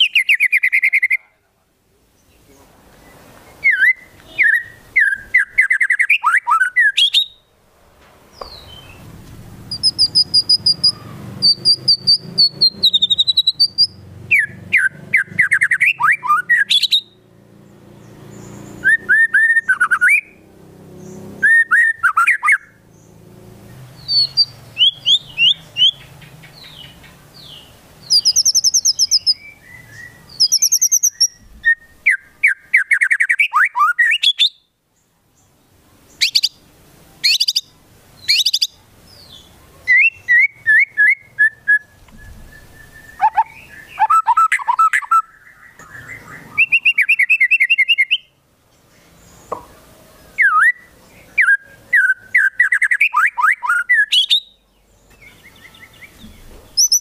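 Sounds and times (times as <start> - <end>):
songbird singing rapid trills and whistles: 0.0 - 1.4, 2.1 - 7.5, 8.3 - 57.0.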